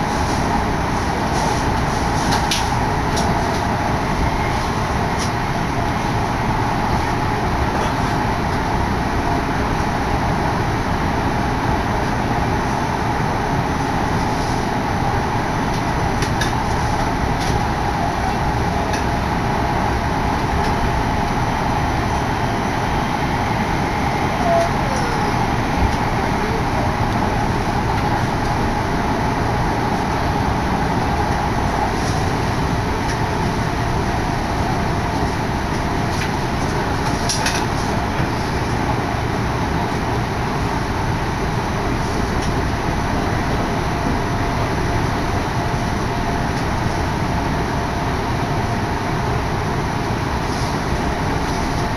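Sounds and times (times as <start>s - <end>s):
train wheels on rails: 0.0s - 51.9s.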